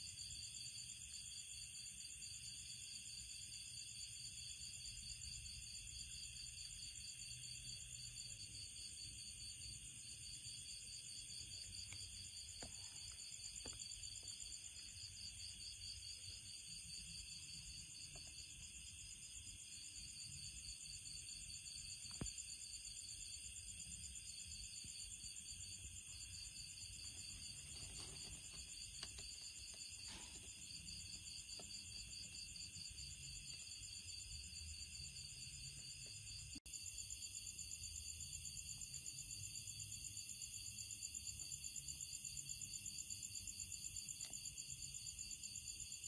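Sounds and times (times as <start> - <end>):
night insects trilling: 0.0 - 46.0.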